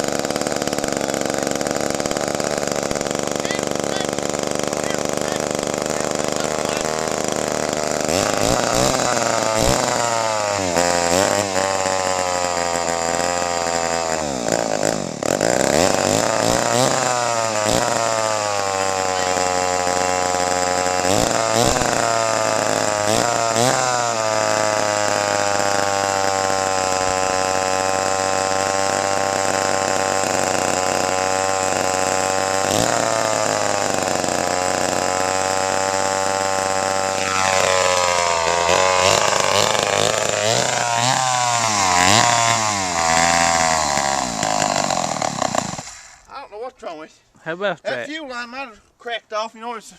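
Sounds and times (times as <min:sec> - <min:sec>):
chainsaw engine running unevenly: 0:00.0 - 0:46.3.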